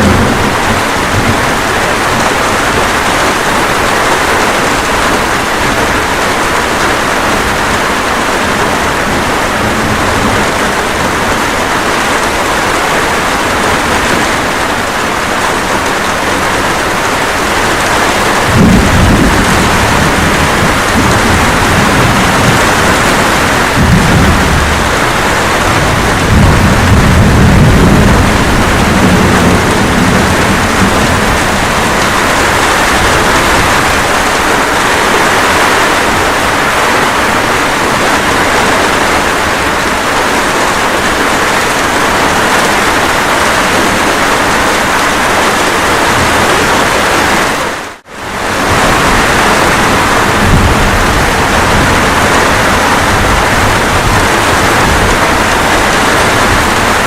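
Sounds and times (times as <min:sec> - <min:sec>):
low thunder rumble: 0:00.0 - 0:47.1, 0:48.3 - 0:57.0
rain hissing: 0:00.0 - 0:57.0.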